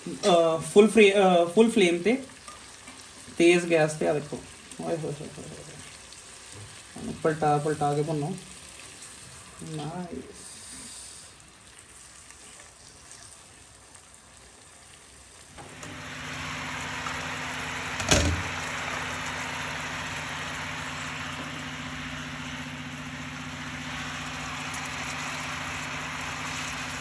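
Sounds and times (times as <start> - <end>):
chicken sizzling in a frying pan: 0.0 - 27.0.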